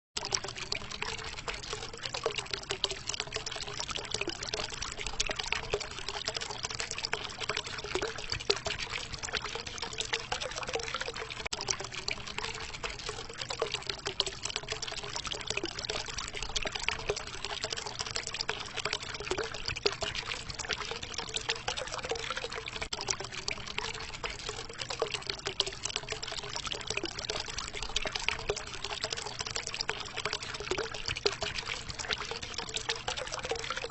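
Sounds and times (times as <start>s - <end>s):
low wavering bubbling: 0.2s - 33.9s
water fountain splashing into pool: 0.2s - 33.9s.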